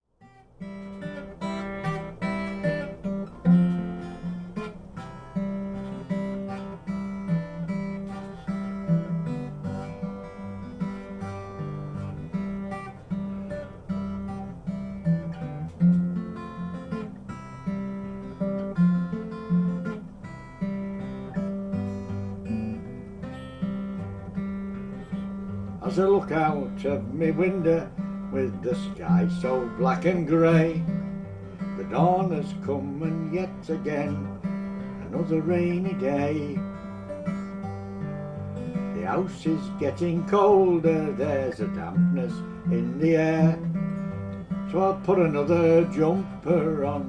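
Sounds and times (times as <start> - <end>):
acoustic guitar strumming: 0.2 - 47.0.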